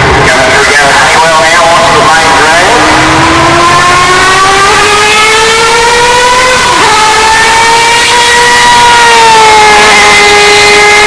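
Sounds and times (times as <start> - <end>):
race car engine accelerating: 0.0 - 11.0.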